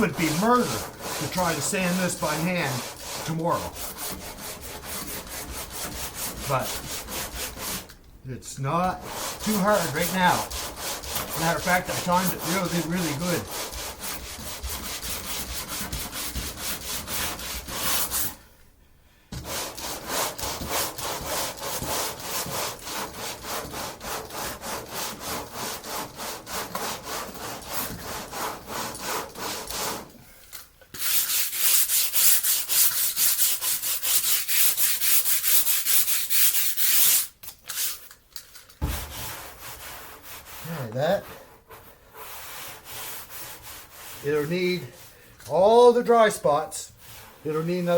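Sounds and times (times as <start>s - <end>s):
sandpaper sanding by hand: 0.0s - 7.9s, 8.8s - 18.4s, 19.4s - 30.1s, 31.0s - 38.2s, 38.8s - 47.9s.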